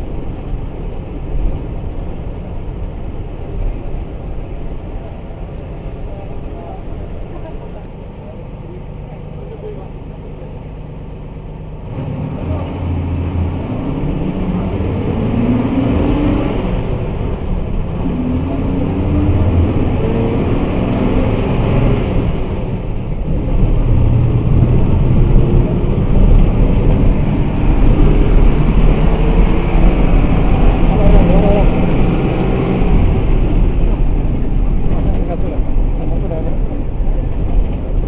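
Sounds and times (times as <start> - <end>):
bus diesel engine pulling: 0.0 - 38.0.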